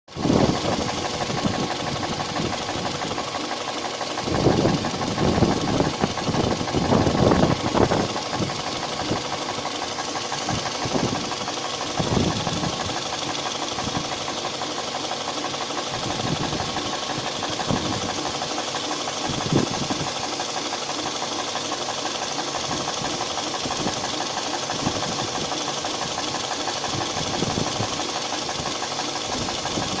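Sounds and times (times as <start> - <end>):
car engine running: 0.1 - 30.0
engine knocking bursts: 0.1 - 30.0.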